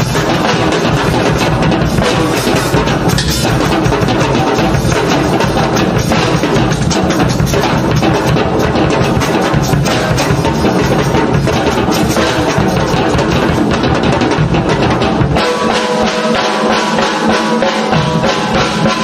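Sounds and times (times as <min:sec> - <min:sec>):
loud dense drumming: 0:00.0 - 0:19.0.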